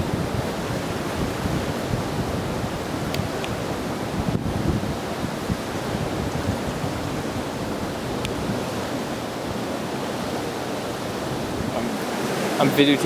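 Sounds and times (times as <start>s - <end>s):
fast-flowing river rushing: 0.0s - 13.0s
wind on microphone: 0.0s - 13.0s.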